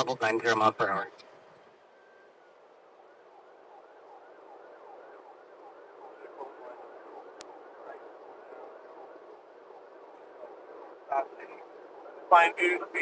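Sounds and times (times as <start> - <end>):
police siren yelping: 1.3 - 13.0.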